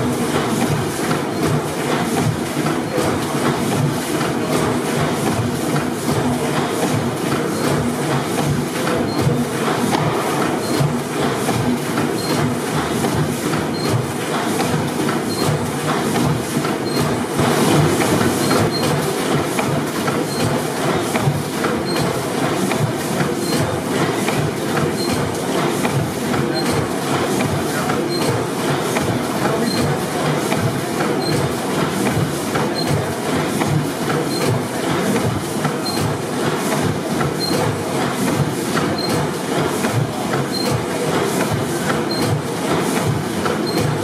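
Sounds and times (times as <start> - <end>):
large gas engine clattering: 0.0 - 44.0.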